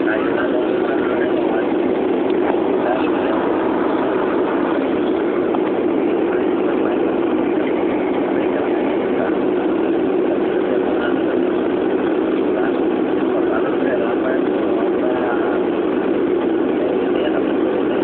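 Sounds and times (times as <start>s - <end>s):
low even hum: 0.0s - 18.0s
turboprop engine drone in cabin: 0.0s - 18.0s.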